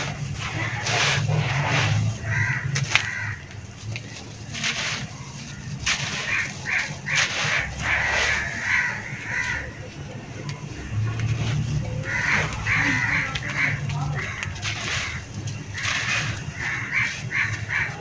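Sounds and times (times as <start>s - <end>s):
dry soil crunching: 0.0s - 18.0s.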